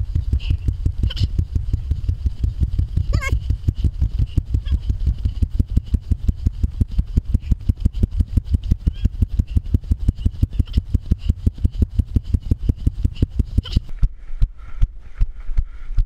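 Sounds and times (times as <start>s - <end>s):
engine running with rapid pulsing: 0.0s - 13.9s.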